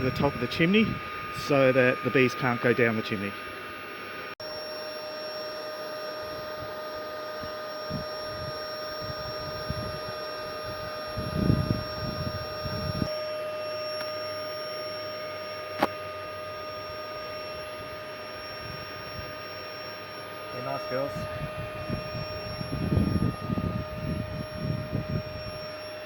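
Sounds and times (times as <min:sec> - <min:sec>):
vacuum whining: 0:00.0 - 0:26.0.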